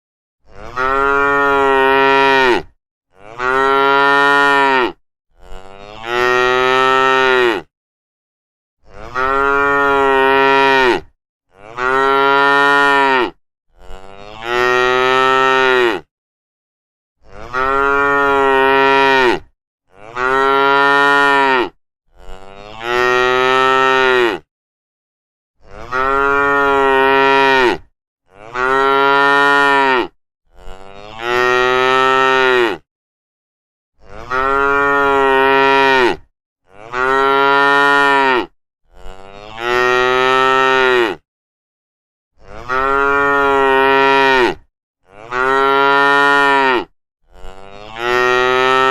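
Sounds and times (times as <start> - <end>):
cow mooing: 0.4 - 7.7, 8.8 - 16.1, 17.2 - 24.5, 25.6 - 32.9, 34.0 - 41.2, 42.4 - 48.9.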